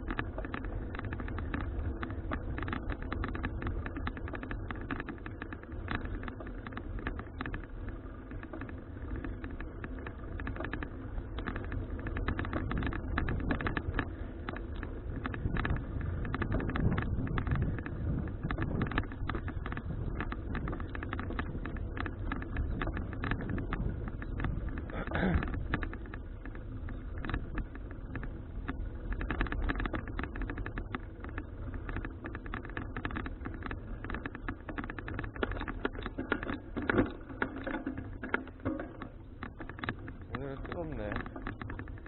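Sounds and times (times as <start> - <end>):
wind buffeting microphone: 0.0 - 37.4
bicycle clicks and knocks: 0.0 - 42.0.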